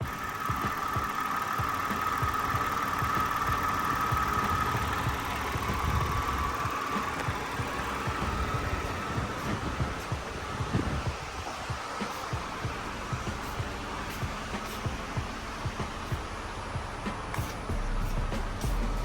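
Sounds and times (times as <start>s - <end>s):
low uneven thumping: 0.0s - 19.0s
steady whine: 0.0s - 19.0s
vehicle engine idling: 0.0s - 19.0s.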